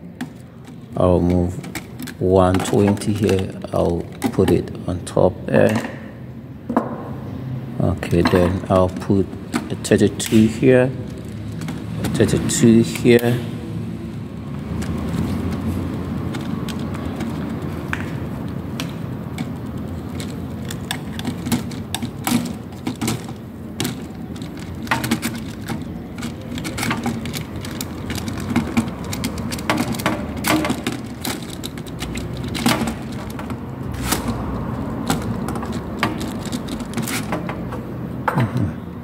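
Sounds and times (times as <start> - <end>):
circuit breakers clicking onto rail: 0.0 - 4.8, 8.1 - 38.6.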